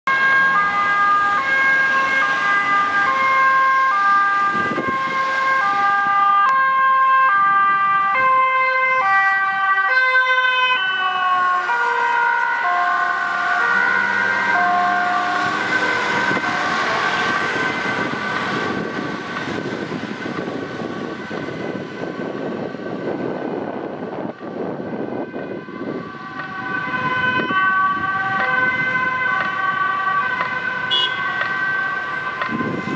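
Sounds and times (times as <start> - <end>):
ambulance two-tone siren: 0.1 - 32.9
road traffic noise: 0.1 - 32.9.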